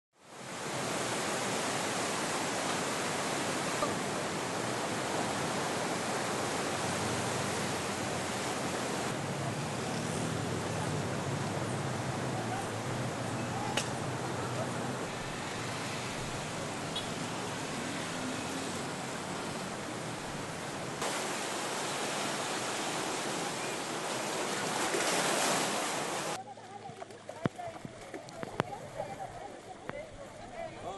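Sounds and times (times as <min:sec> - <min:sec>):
floodwater rushing: 0:00.2 - 0:30.9.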